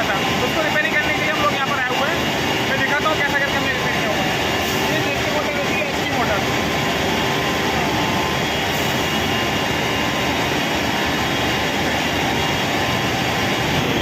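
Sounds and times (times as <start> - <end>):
heavy machinery drone: 0.0 - 14.0.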